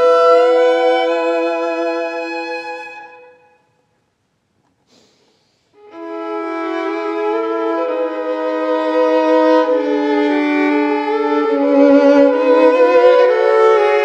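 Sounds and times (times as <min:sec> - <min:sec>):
slow bowed violin melody: 0:00.0 - 0:03.6, 0:05.8 - 0:14.0.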